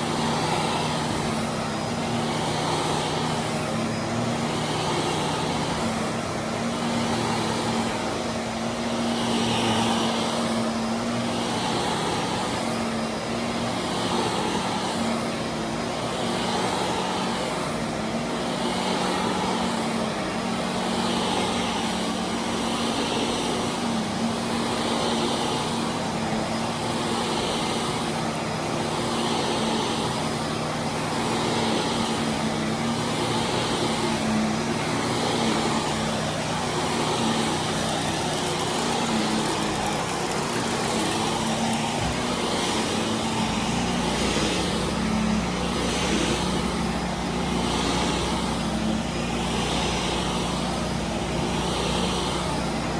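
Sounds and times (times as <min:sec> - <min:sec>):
carpet-cleaning machine: 0:00.0 - 0:52.9
pressure washer hum: 0:00.0 - 0:52.9.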